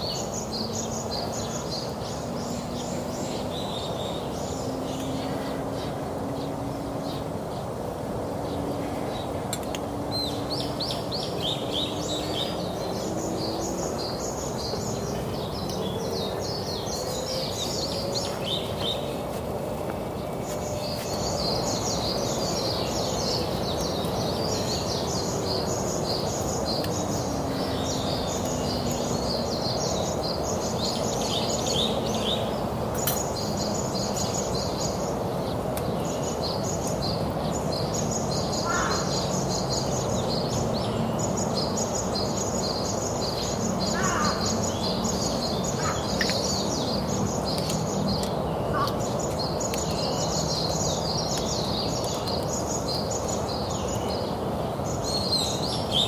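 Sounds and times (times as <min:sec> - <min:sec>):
birds chirping: 0:00.0 - 0:56.0
steady background hum: 0:00.0 - 0:56.0.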